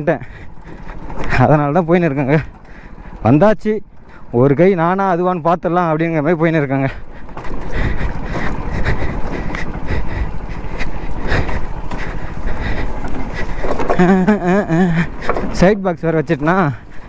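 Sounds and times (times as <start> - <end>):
motorcycle engine running slowly: 0.0 - 17.0
motorcycle rattling and knocking: 0.0 - 17.0.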